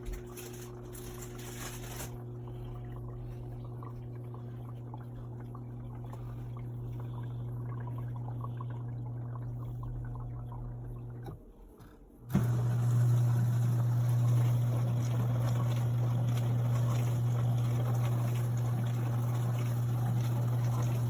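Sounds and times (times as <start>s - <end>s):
dishwasher pump motor hum: 0.0s - 21.0s
water splashing inside: 0.0s - 21.0s.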